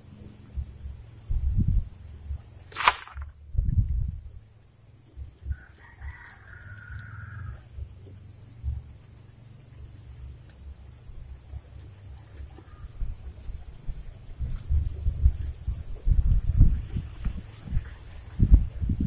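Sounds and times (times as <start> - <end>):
drawn-out insect call: 0.0 - 19.0
insect chorus: 0.0 - 19.0.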